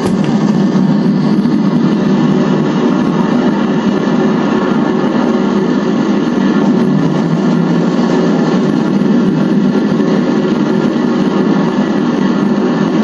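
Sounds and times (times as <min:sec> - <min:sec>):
spacecraft engines roaring: 0:00.0 - 0:13.0.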